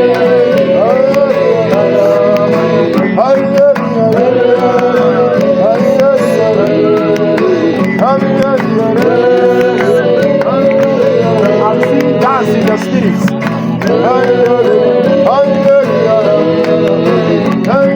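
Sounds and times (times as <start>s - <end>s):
hand percussion: 0.0s - 17.9s
person singing: 0.0s - 17.9s.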